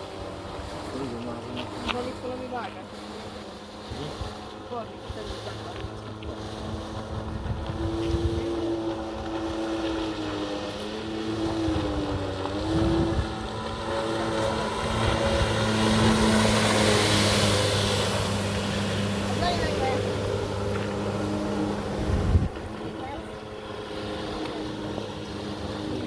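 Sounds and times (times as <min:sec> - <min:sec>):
jet ski engine running: 0:00.0 - 0:26.0.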